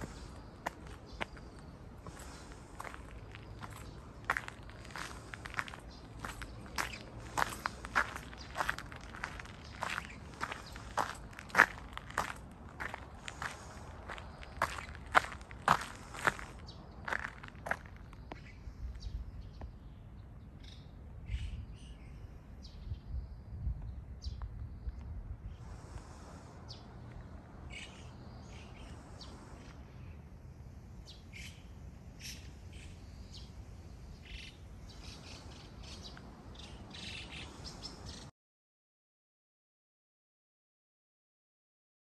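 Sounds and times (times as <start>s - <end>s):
birds chirping: 0.0s - 30.3s, 31.0s - 38.3s.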